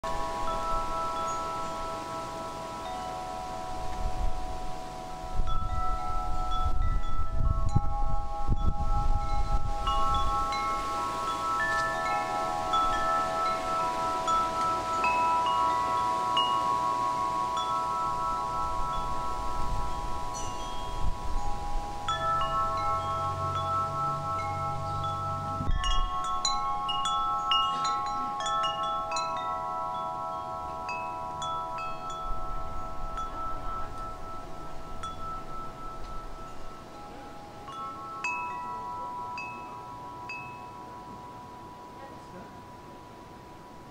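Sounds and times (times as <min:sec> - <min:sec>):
wind chimes ringing: 0:00.0 - 0:43.9.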